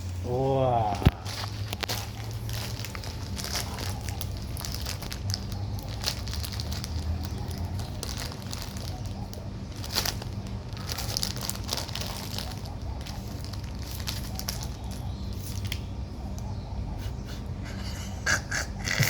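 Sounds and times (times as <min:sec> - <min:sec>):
packaging crinkling and rustling: 0:00.9 - 0:16.4.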